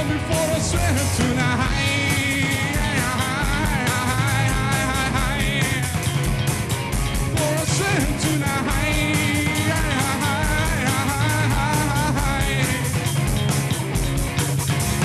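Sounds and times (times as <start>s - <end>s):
bass line: 0.0s - 15.0s
drums with cymbal strokes: 0.0s - 15.0s.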